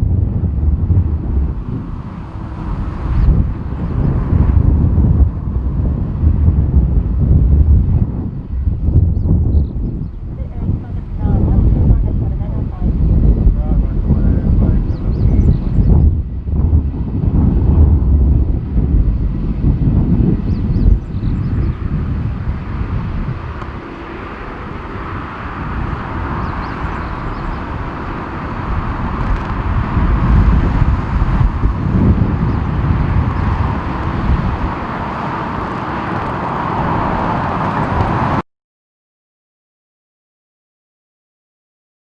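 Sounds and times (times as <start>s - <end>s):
jet engines rushing: 0.0s - 38.4s
wind rumbling on microphone: 0.0s - 38.4s.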